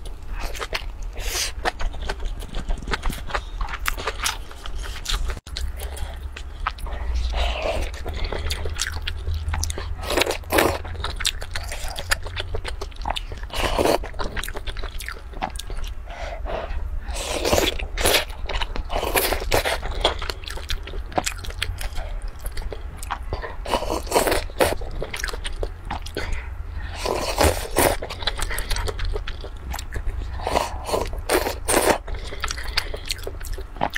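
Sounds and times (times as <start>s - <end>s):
biting and chewing: 0.0s - 33.9s.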